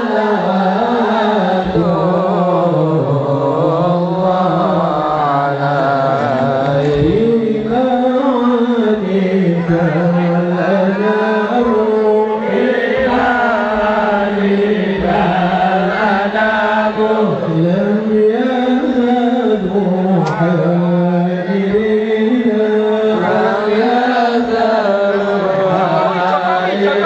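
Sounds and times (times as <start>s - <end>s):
person chanting devotional song: 0.0s - 27.0s.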